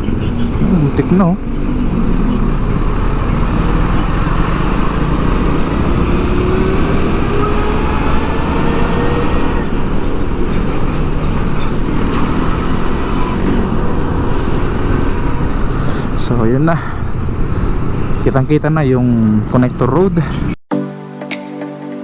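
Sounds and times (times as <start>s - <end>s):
road traffic rumble: 0.0s - 20.6s
vehicle engine rising in pitch: 0.0s - 20.6s.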